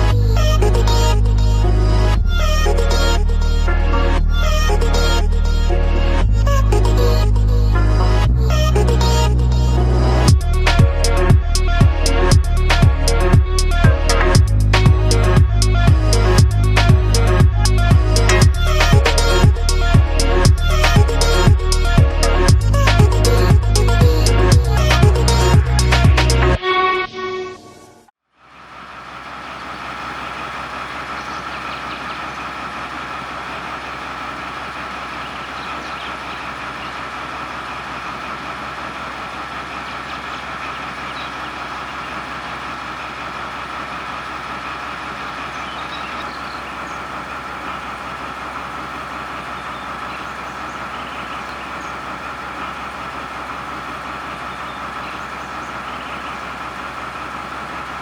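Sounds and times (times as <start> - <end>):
low machinery hum: 0.0 - 26.6, 28.5 - 58.0
machinery whine: 0.0 - 58.0.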